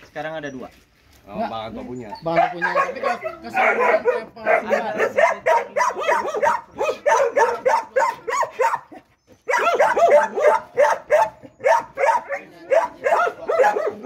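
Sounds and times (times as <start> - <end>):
dogs barking: 2.2 - 14.0.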